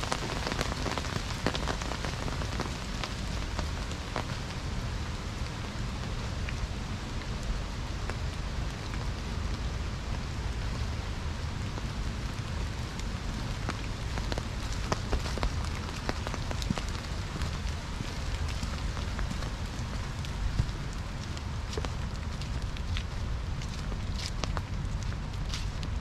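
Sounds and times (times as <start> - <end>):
rain on wet ground and leaves: 0.0 - 26.0.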